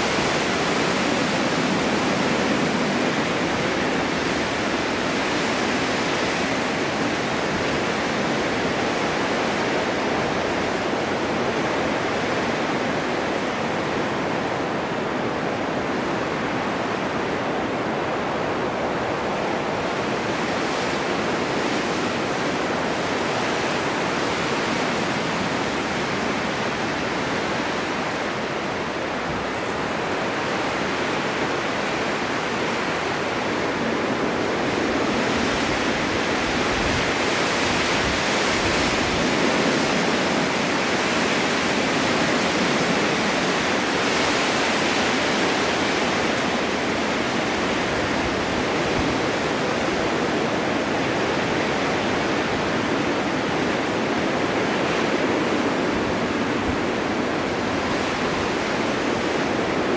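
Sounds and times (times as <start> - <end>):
snowstorm wind blowing: 0.0 - 59.9.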